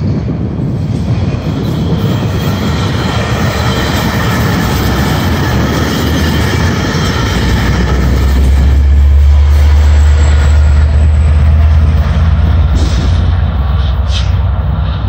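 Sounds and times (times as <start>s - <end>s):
train wheels rumbling on rail: 0.0s - 15.0s
high wheel squeal: 1.4s - 15.0s.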